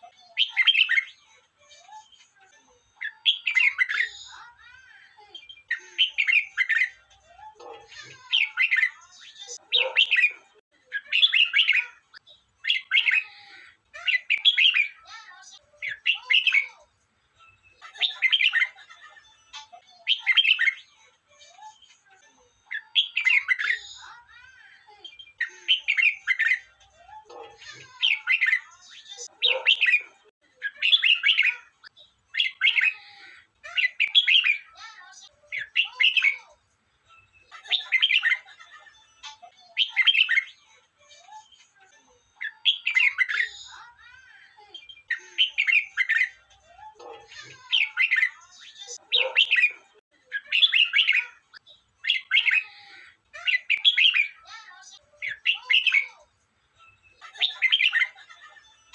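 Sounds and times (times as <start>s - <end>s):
bird singing warbling phrases: 0.0s - 58.9s.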